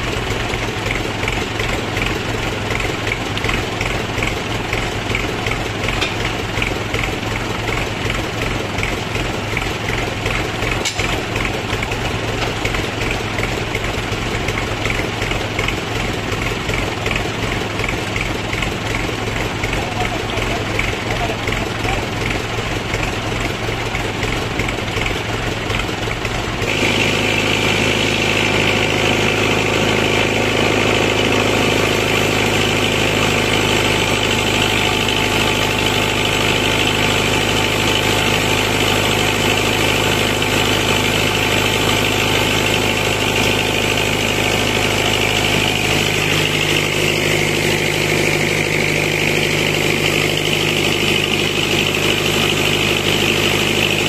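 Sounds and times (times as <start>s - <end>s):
sawmill high whine: 0.0s - 54.0s
tractor engine running: 0.0s - 54.0s.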